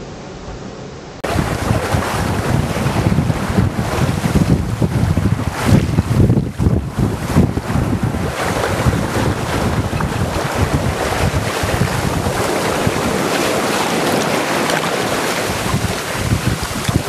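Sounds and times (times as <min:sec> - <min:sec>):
water rushing past hull: 0:01.2 - 0:17.0
wind blowing across microphone: 0:01.2 - 0:17.0.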